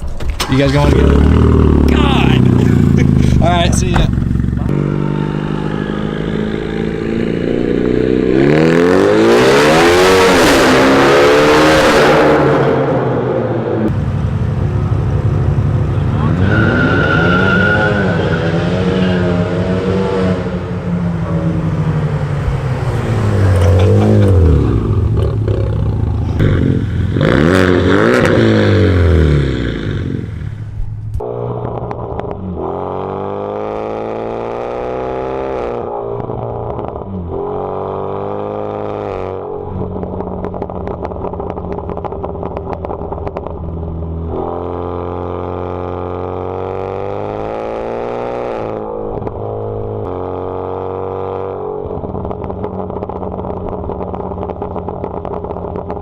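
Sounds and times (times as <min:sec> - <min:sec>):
car engine revving: 0:00.3 - 0:56.0.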